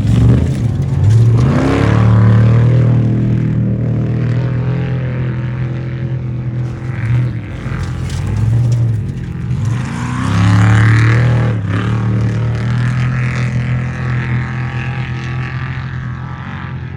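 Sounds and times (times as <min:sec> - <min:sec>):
race truck engines running hard: 0:00.0 - 0:16.9.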